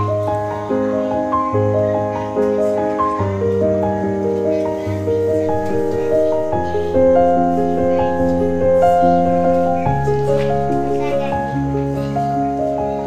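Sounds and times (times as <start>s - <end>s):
slow keyboard music: 0.0s - 13.0s.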